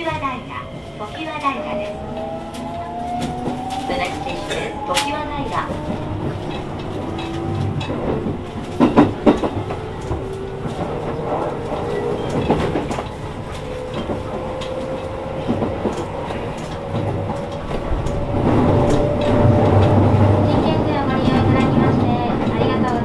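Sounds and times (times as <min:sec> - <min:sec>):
rail joint clacks: 0:00.0 - 0:23.0.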